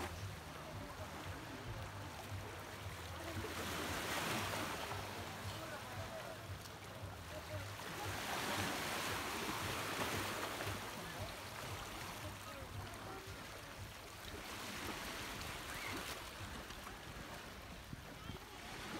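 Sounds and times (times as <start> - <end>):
low surf washing on shore: 0.0 - 18.9.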